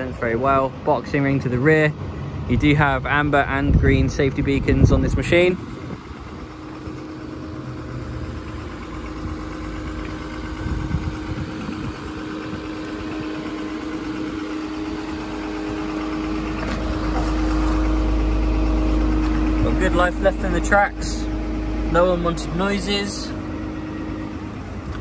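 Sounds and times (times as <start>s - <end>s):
excavator diesel engine idling: 0.0s - 25.0s.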